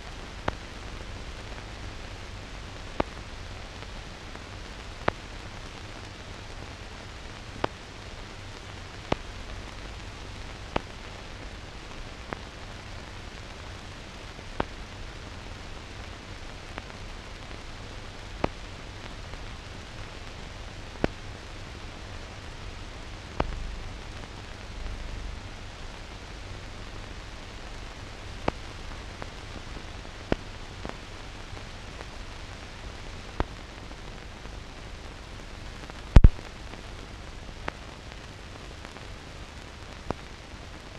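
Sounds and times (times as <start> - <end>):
film hiss: 0.0 - 40.9.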